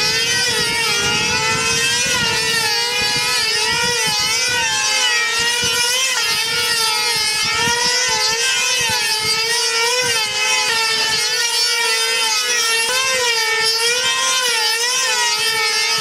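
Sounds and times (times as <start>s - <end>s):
model plane engine whining: 0.0s - 16.0s.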